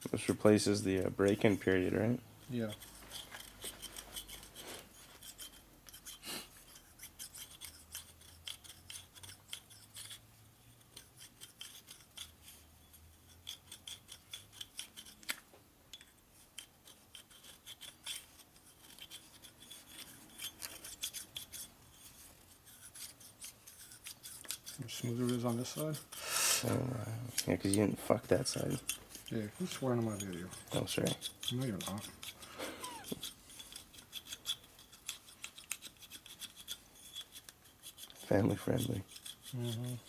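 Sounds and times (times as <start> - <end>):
hand file scraping metal: 0.0 - 40.0.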